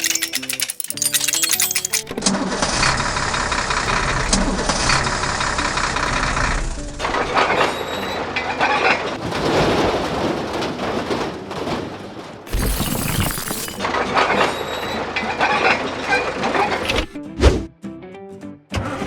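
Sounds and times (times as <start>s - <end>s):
crashing and clattering: 0.0s - 6.2s, 7.0s - 17.2s.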